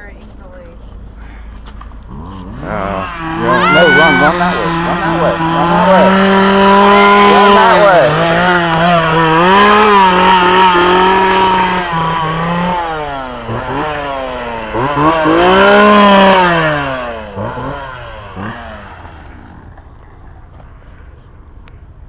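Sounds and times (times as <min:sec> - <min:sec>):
chainsaw engine revving: 0:02.0 - 0:20.5.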